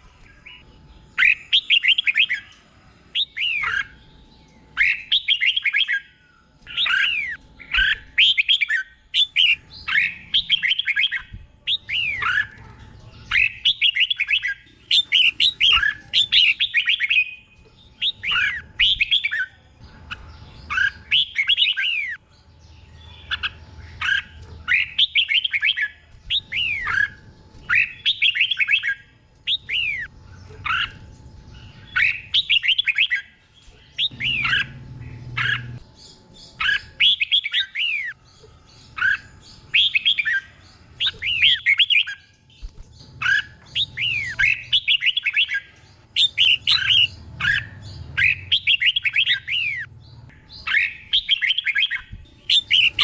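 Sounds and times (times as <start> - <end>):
bulbul singing whistled phrases: 0.0 - 22.2, 23.1 - 31.0, 31.6 - 53.0.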